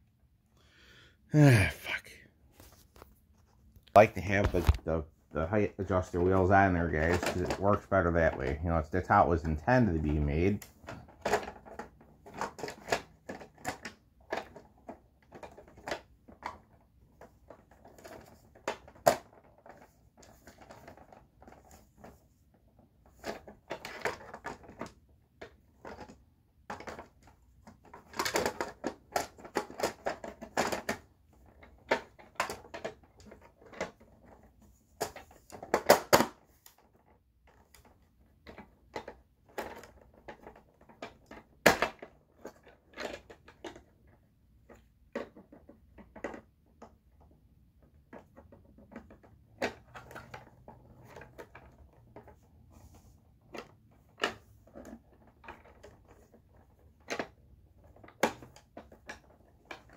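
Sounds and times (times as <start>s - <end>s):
plastic vacuum parts clicking and rattling: 2.6s - 59.9s.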